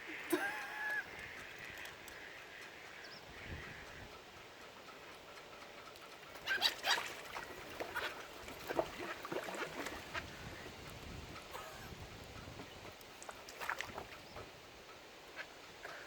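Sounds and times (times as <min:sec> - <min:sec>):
water birds harsh calls: 0:00.0 - 0:16.0.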